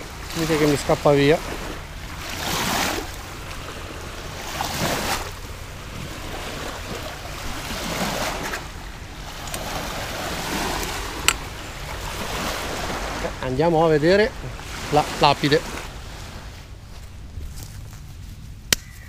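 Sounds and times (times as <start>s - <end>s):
waves lapping on sandy shore: 0.0s - 17.8s
wind rumble on microphone: 0.0s - 19.0s.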